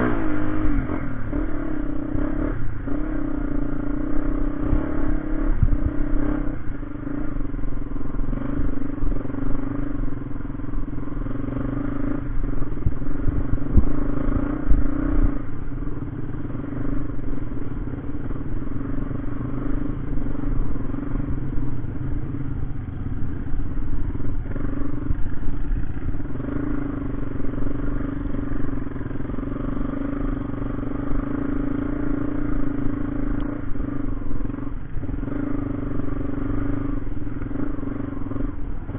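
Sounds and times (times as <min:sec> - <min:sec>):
motorcycle engine droning: 0:00.0 - 0:38.9.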